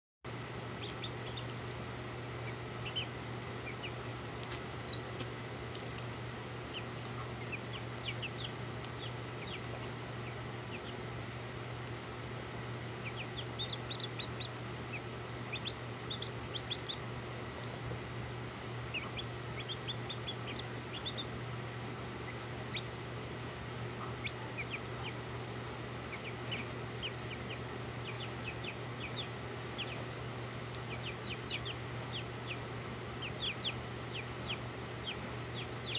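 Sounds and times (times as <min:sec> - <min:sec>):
chicks peeping: 0:00.3 - 0:18.0, 0:18.7 - 0:35.9
steady low hum: 0:00.3 - 0:35.9.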